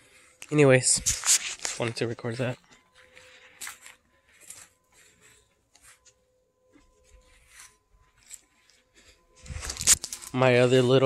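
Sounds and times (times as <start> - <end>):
faint steady thin tone: 0.0 - 11.0
faint rustling and clicks: 0.4 - 10.6.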